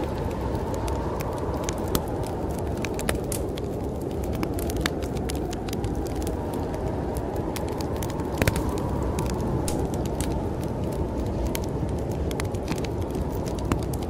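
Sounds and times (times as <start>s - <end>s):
storm wind rushing: 0.0s - 14.0s
wood fire crackling: 0.0s - 14.0s.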